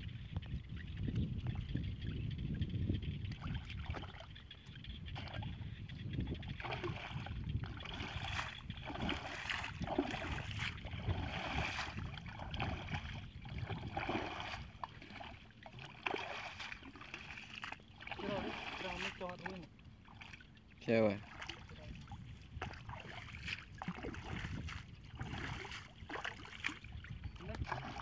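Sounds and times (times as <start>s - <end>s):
muddy water splashing and gurgling: 0.1s - 28.0s.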